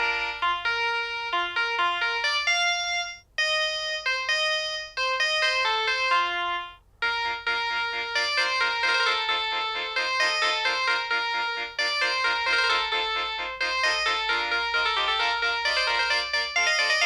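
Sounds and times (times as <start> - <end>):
polyphonic phone ringtone: 0.0 - 17.0.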